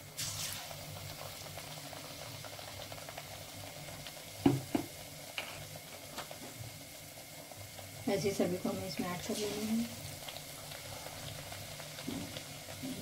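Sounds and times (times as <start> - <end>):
vegetable slices deep-frying in oil: 0.0 - 13.0.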